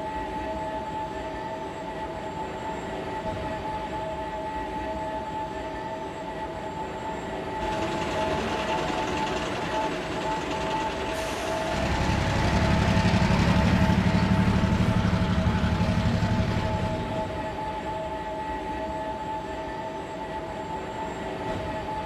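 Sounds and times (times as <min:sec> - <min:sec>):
low rhythmic train rumble: 0:00.0 - 0:22.0.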